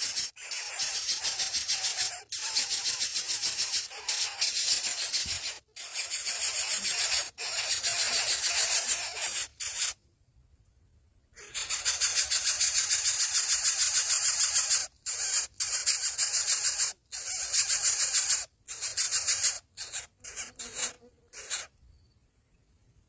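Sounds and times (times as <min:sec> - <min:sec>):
nestlings begging calls: 0:00.0 - 0:10.0, 0:11.4 - 0:21.7.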